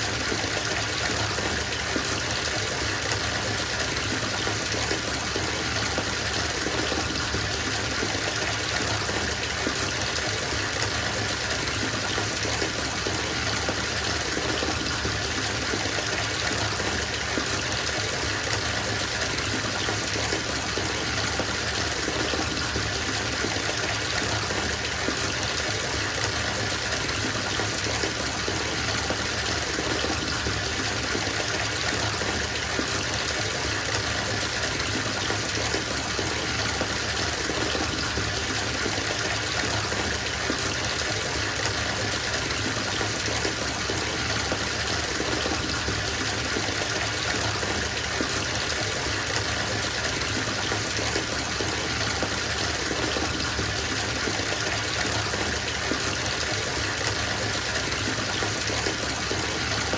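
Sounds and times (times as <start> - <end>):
water gushing from bathtub tap: 0.0 - 59.9.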